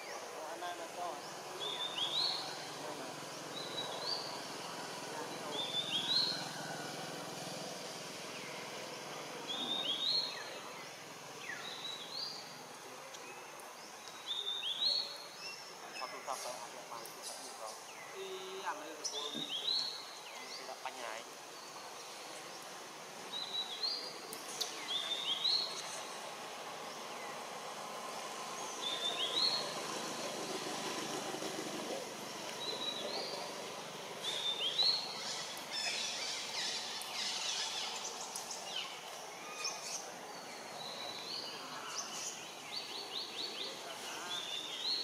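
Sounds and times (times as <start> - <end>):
bird chirping: 0.0 - 45.0
outdoor hiss: 0.0 - 45.0.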